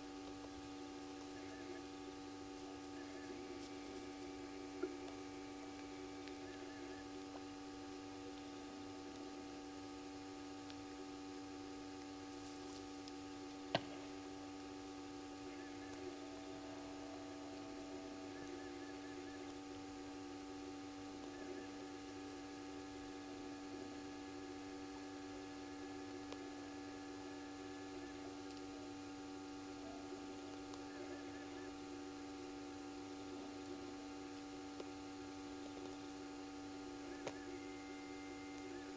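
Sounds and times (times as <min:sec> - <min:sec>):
electrical mains hum: 0:00.0 - 0:38.9
faint high chirps: 0:00.5 - 0:09.4, 0:15.2 - 0:34.4, 0:35.1 - 0:38.9.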